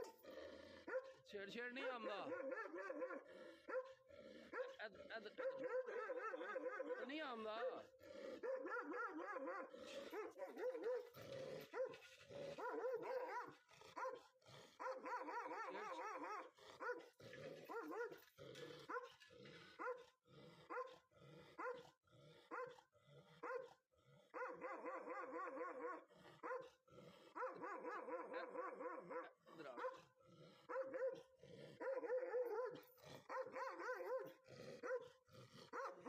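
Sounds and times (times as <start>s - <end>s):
dog barking aggressively: 0.0s - 1.2s, 1.8s - 7.2s, 8.3s - 36.0s.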